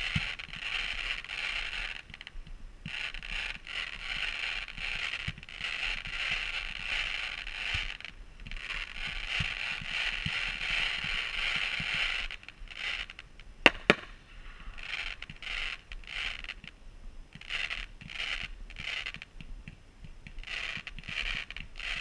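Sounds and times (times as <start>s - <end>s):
fountain fireworks hissing: 0.0s - 16.7s, 17.3s - 19.3s, 20.0s - 22.0s
sharp pops: 2.0s - 22.0s.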